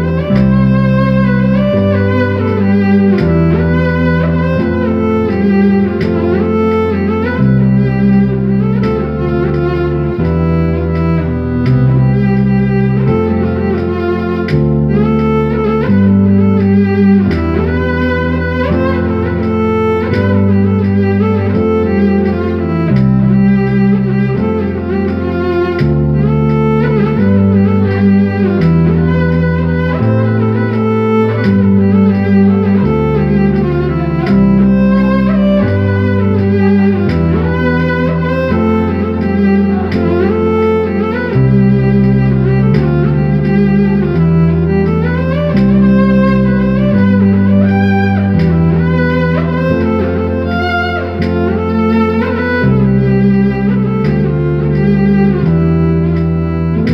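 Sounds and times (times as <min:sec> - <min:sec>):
keyboard bass line: 0:00.0 - 0:56.9
keyboard string-like melody: 0:00.0 - 0:56.9.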